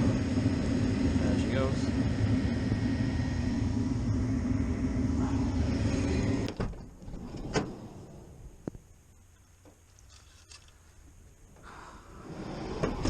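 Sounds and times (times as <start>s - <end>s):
furnace humming: 0.0s - 13.0s.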